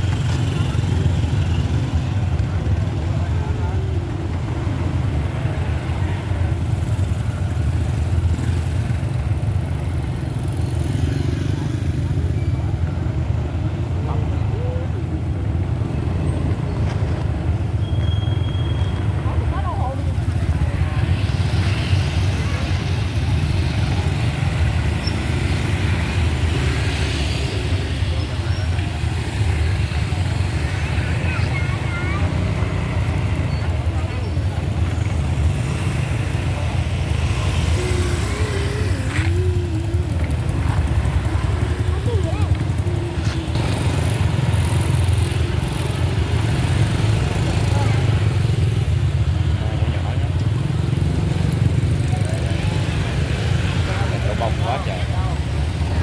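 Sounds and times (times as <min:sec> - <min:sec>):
motorbike engine rumble: 0:00.0 - 0:56.0
road noise: 0:00.0 - 0:56.0.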